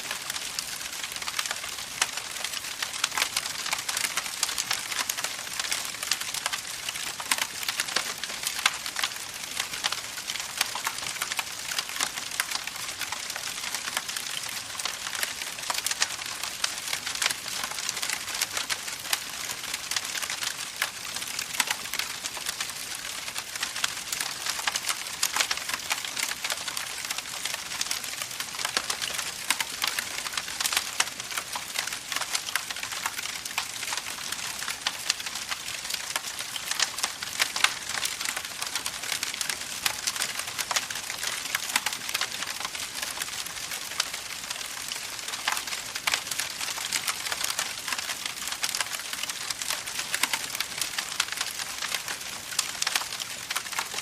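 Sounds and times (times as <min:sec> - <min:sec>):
campfire crackling: 0:00.1 - 0:54.0.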